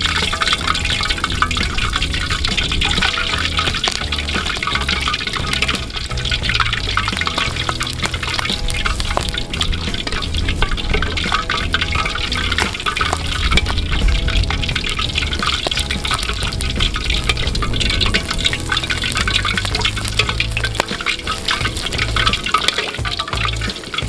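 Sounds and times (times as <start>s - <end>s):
hot oil pouring and sizzling: 0.0s - 24.0s
oil crackling: 0.0s - 24.0s.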